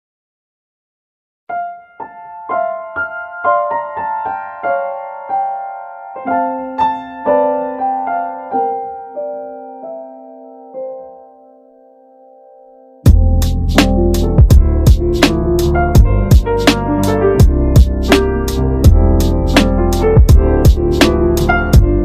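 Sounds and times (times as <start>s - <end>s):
piano melody: 1.5s - 22.0s.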